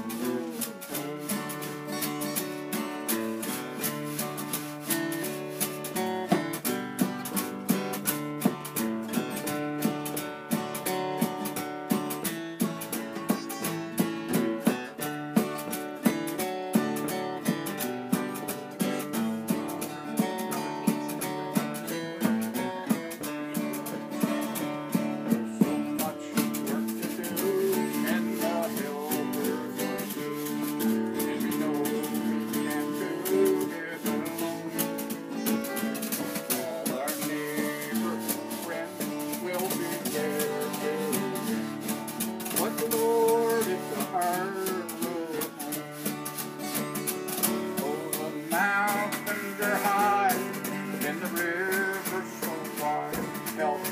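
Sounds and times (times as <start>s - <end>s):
acoustic guitar strumming: 0.0s - 53.9s.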